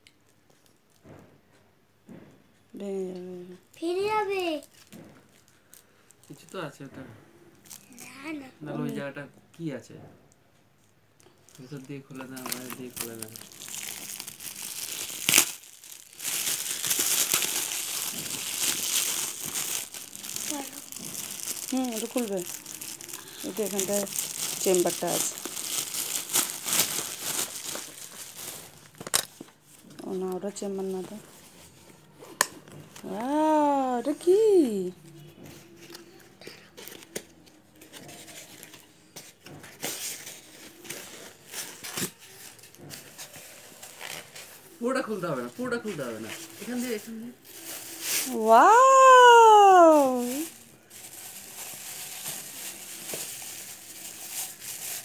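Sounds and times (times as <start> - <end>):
metallic gift wrap crinkling: 3.8 - 6.9, 11.2 - 55.0
cardboard and packaging rustling: 3.8 - 7.0, 11.4 - 55.0.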